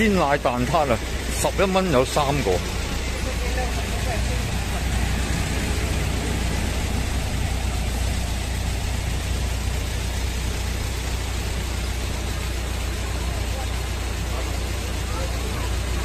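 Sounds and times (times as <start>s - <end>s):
street traffic engine rumble: 0.0s - 16.0s.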